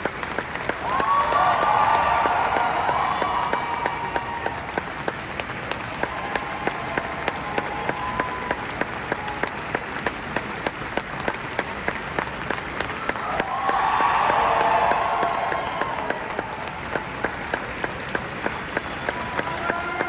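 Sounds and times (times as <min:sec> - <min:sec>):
audience applause: 0:00.0 - 0:20.0
nearby hands clapping: 0:00.0 - 0:20.0.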